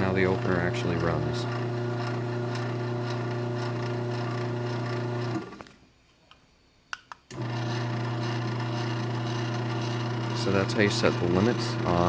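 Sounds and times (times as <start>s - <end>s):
garage door opener motor hum: 0.0s - 5.7s, 7.3s - 12.0s.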